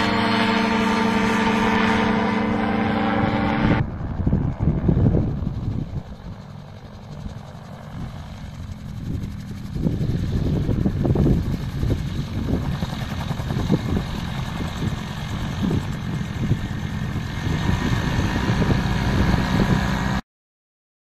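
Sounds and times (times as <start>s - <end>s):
gyrocopter engine buzzing overhead: 0.0s - 20.2s.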